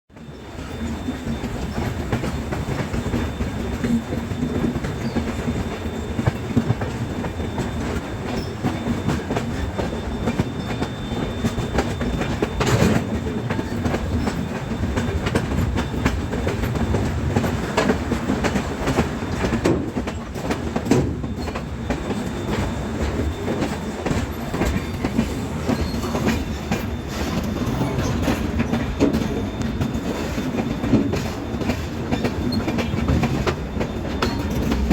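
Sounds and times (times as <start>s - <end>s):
train rumble: 0.1s - 34.9s
train wheels clattering over rails: 0.1s - 34.9s.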